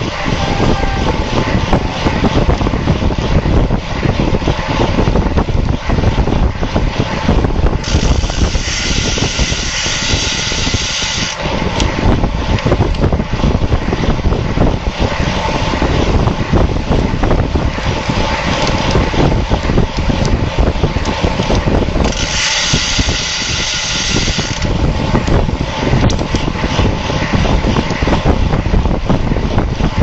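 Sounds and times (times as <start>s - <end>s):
bicycle tyre and drivetrain noise: 0.0s - 30.0s
wind buffeting microphone: 0.0s - 30.0s.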